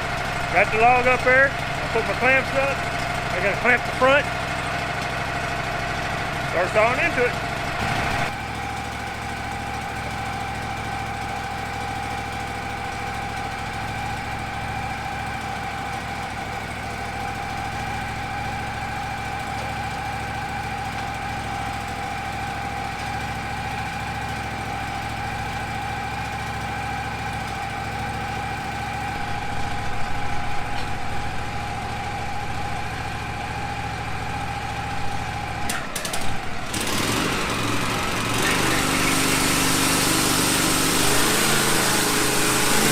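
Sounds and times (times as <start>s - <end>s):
band sawmill engine hum: 0.0s - 42.9s
saw whine: 0.0s - 42.9s.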